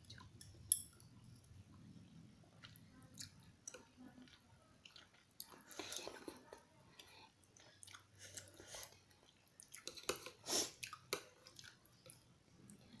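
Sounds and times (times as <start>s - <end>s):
chewing food close up: 0.0s - 13.0s.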